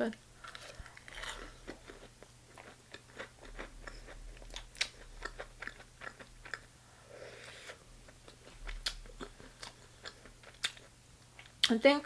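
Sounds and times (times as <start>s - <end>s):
crunchy wet chewing: 0.4s - 6.7s, 7.6s - 11.7s.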